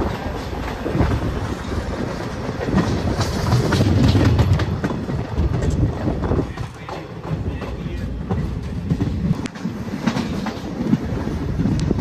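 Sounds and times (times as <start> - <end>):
train low rumble: 0.0 - 12.0
wheels clacking over rail joints: 0.0 - 12.0.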